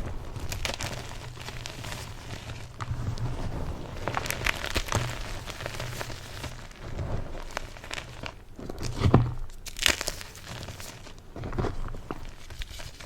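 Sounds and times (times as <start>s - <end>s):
chalk being crushed: 0.0s - 13.0s.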